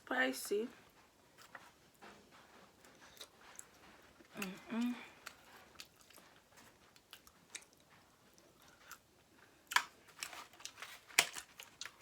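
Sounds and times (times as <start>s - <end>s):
quiet chewing: 0.8s - 12.0s.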